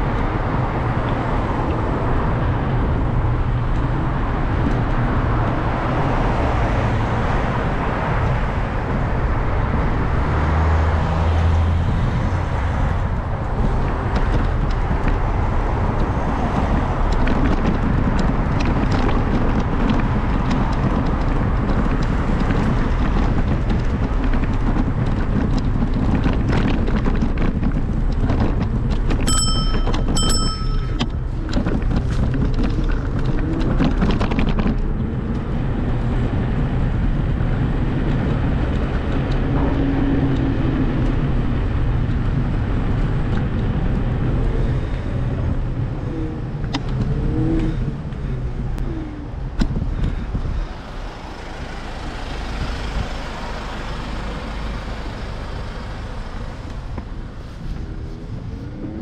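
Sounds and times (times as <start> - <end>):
traffic noise: 0.0 - 59.0
wind rumbling on microphone: 0.0 - 59.0.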